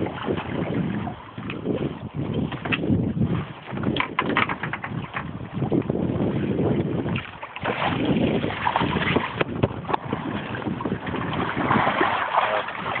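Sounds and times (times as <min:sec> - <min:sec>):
water splashing against boat: 0:00.0 - 0:13.0
wind buffeting microphone: 0:00.0 - 0:13.0.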